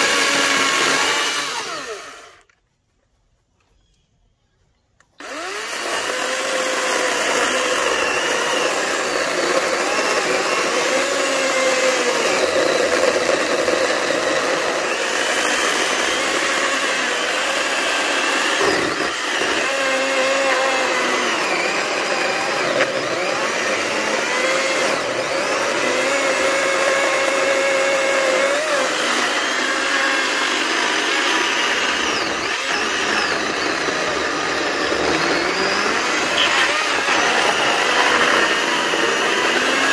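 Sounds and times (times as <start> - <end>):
electric chainsaw cutting wood: 0.0 - 2.6, 5.2 - 39.9.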